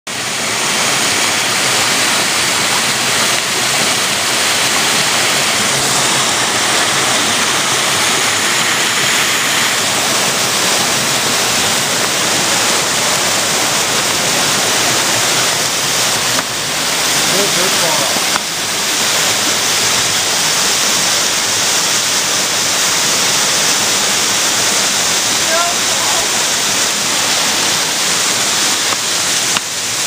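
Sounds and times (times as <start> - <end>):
waterfall splashing into pool: 0.1 - 30.0.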